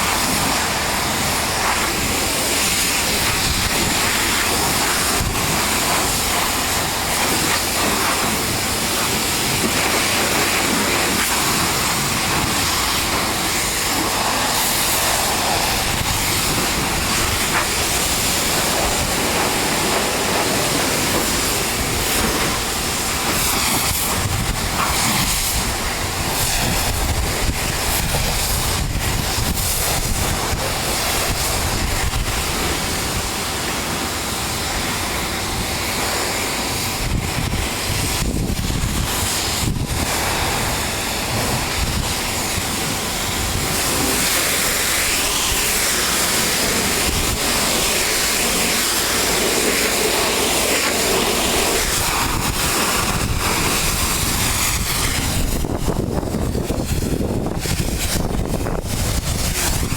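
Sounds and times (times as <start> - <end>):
pressure washer spraying: 0.0 - 59.9.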